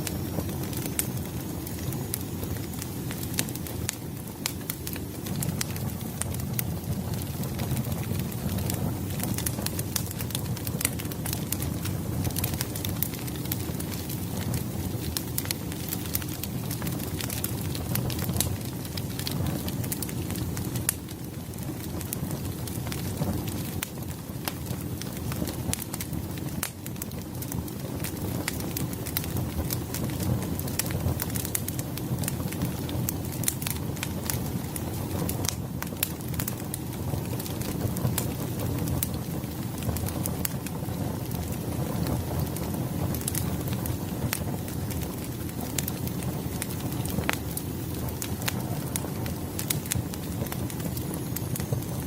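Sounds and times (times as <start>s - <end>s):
fire rumbling: 0.0s - 52.0s
firewood popping and crackling: 0.0s - 52.0s.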